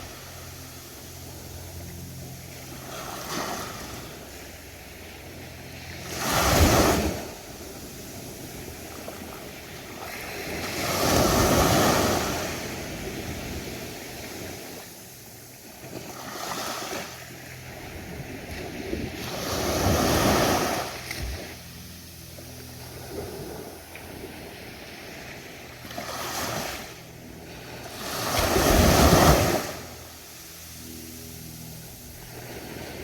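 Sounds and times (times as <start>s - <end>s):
ocean waves breaking: 0.0s - 33.0s.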